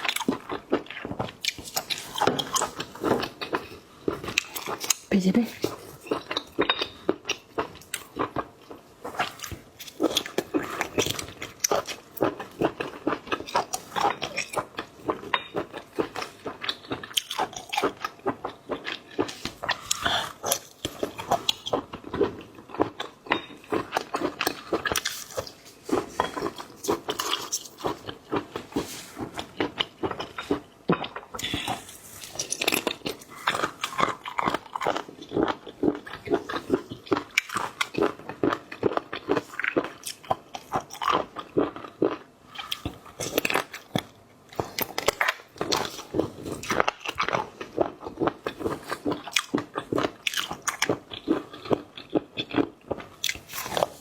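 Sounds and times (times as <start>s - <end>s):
wet chewing and smacking: 0.0s - 54.0s.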